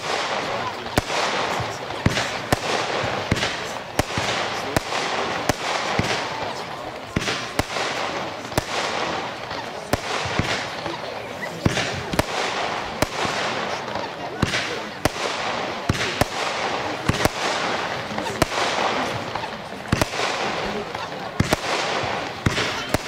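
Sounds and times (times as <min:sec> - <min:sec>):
firework bangs: 0:00.0 - 0:23.0.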